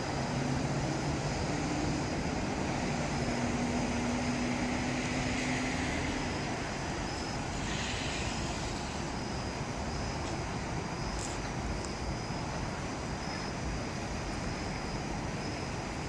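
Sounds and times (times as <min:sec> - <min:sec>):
low rumble of train: 0:00.0 - 0:16.0.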